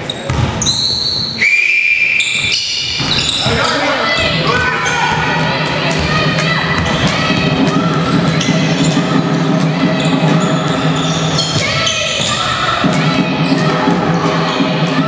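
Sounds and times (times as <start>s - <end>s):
spectators' voices: 2.8s - 15.0s.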